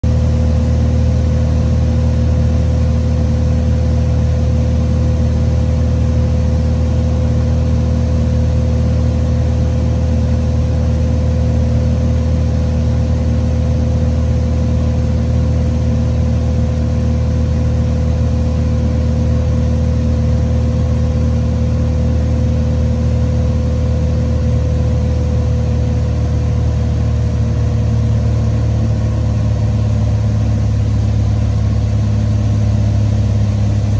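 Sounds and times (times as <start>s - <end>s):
propeller plane engine droning: 0.0s - 33.9s.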